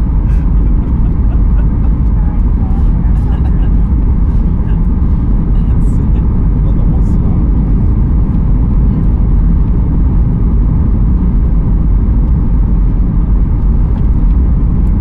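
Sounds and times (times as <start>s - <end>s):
rushing air: 0.0s - 14.8s
airplane cabin engine rumble: 0.0s - 15.0s.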